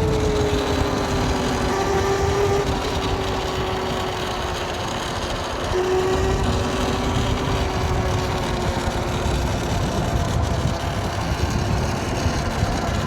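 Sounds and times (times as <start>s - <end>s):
electric motor whine: 0.0s - 13.0s
road noise: 0.0s - 13.0s
wind rushing over microphone: 0.0s - 13.0s.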